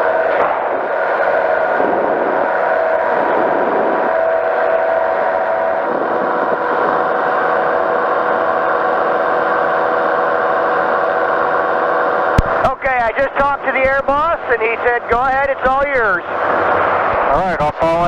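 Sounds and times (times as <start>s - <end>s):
engine and propeller drone: 0.0s - 18.0s.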